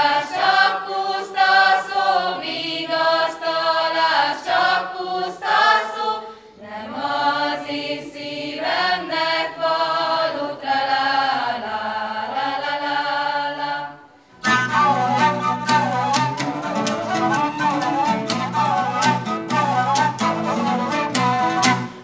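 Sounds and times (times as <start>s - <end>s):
group singing unaccompanied: 0.0s - 21.7s.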